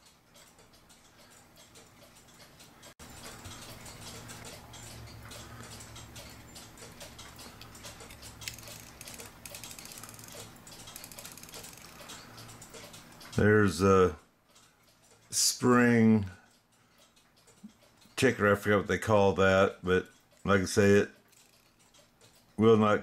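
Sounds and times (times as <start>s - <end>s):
clock movement ticking: 0.0s - 23.0s.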